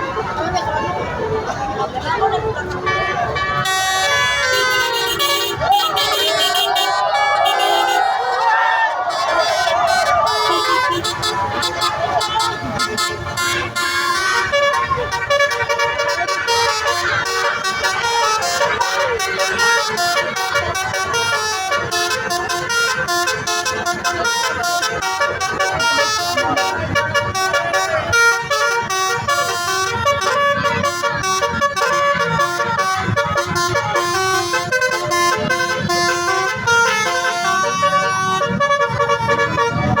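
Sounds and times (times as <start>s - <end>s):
bus horn playing a melody: 2.2s - 40.0s.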